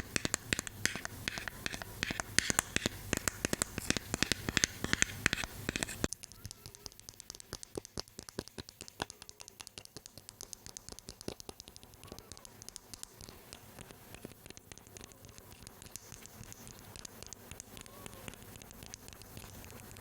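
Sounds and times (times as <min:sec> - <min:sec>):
asmr tapping and scratching: 0:00.0 - 0:20.0.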